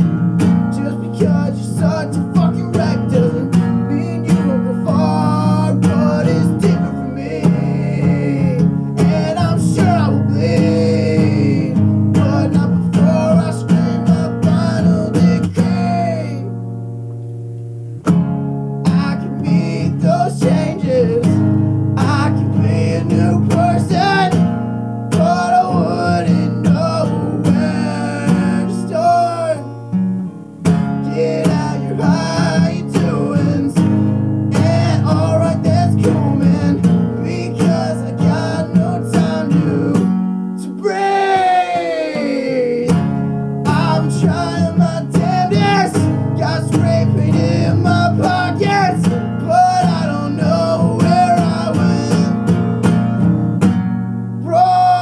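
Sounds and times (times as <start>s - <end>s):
strummed acoustic guitar: 0.0s - 55.0s.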